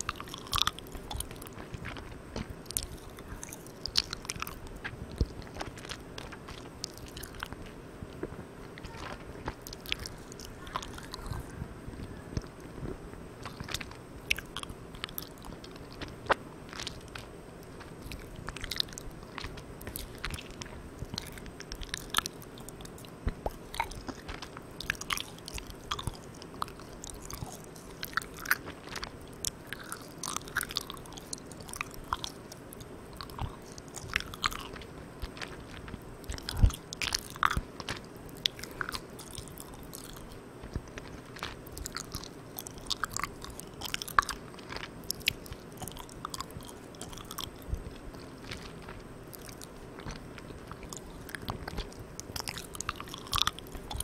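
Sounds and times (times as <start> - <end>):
chewing sticky candy: 0.0 - 54.0
steady microphone hiss: 0.0 - 54.0
sticky mouth clicks and smacks: 0.0 - 54.0.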